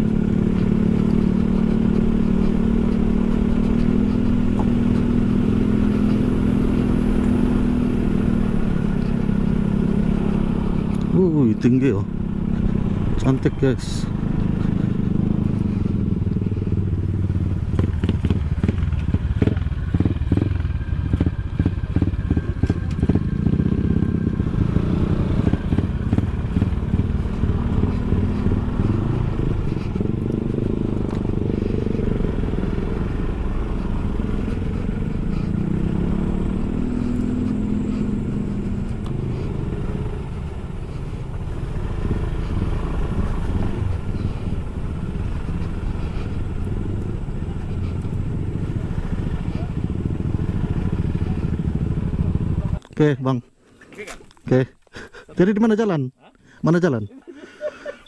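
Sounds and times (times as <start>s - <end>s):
scooter engine revving: 0.0s - 52.9s.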